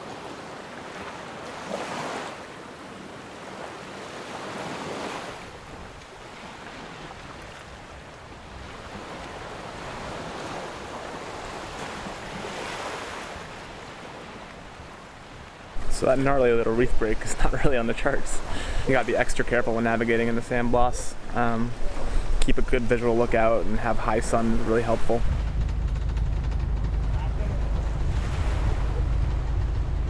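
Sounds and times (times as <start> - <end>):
sea water rushing along a hull: 0.0 - 30.0.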